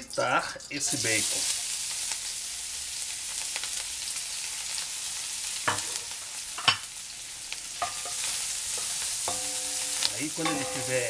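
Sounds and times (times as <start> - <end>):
bacon sizzling in a pan: 0.0 - 11.0.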